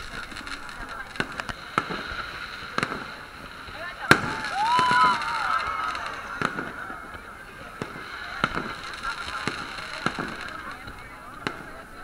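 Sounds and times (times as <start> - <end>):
crowd hubbub: 0.0 - 12.0
fireworks shells bursting: 0.0 - 12.0.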